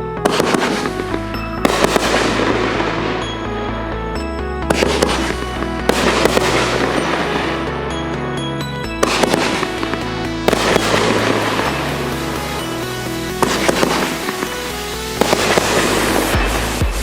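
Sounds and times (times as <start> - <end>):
music with stepping bass: 0.0 - 17.0
firework bangs and crackle: 0.2 - 3.6, 4.6 - 17.0.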